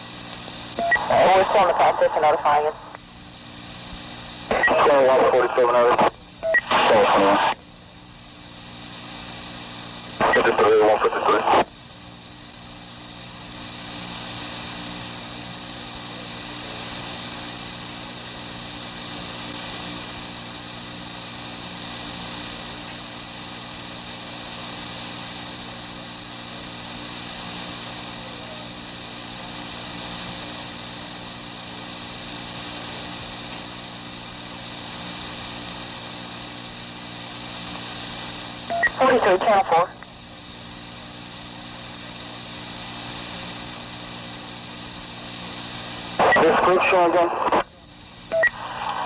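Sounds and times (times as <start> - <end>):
low steady hum: 0.0 - 49.0
tape hiss: 0.1 - 49.0.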